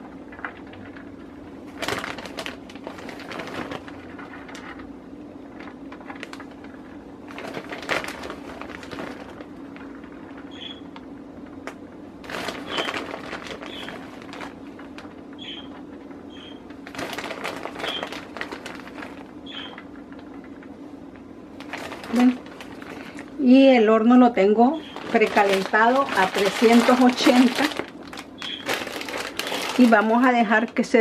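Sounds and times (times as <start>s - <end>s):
plastic bag crinkling: 0.0s - 23.7s, 24.3s - 31.0s
low steady hum: 0.0s - 31.0s.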